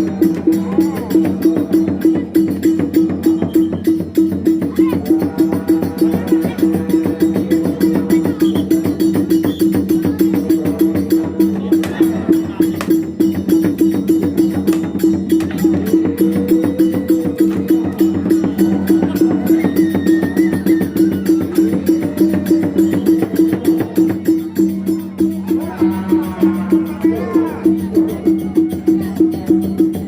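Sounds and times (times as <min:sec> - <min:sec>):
cymbals clashing: 0:00.0 - 0:30.0
percussion ensemble playing: 0:00.0 - 0:30.0.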